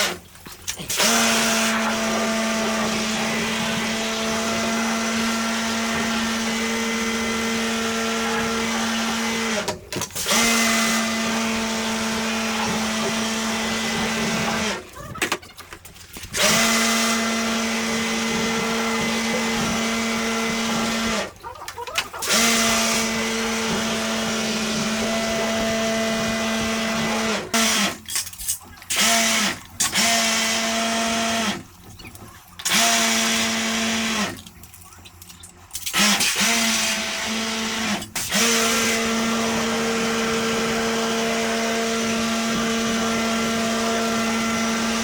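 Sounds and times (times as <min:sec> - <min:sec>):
electric motor running: 0:00.9 - 0:14.9, 0:16.3 - 0:21.4, 0:22.2 - 0:28.0, 0:29.0 - 0:31.7, 0:36.0 - 0:45.0.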